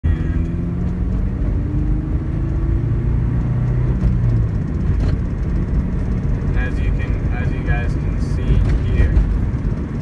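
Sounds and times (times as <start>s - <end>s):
road rumble in a moving car: 0.0s - 10.0s.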